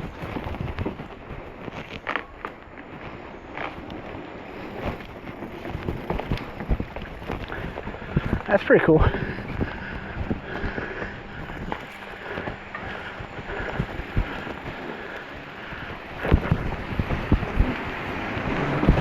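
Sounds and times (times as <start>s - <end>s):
bike knocks and rattles: 0.0s - 19.0s
bike tyre noise: 0.0s - 19.0s
wind on microphone: 0.0s - 19.0s.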